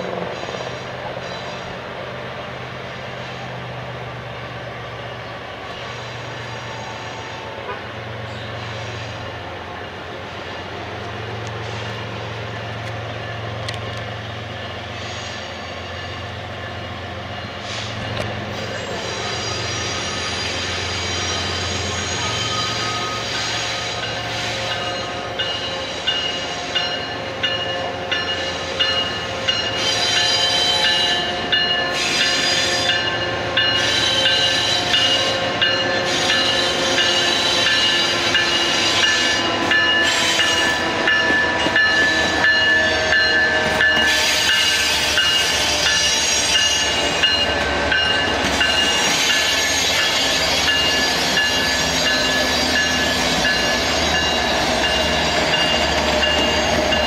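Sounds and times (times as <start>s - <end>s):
train wheel squeal: 0.0s - 1.9s, 4.8s - 57.0s.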